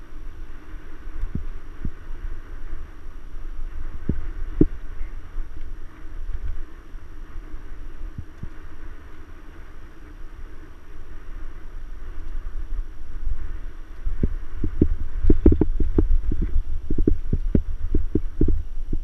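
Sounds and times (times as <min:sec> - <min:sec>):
bike knocking and rattling: 0:00.0 - 0:19.0
wind rumble on microphone: 0:00.0 - 0:19.0.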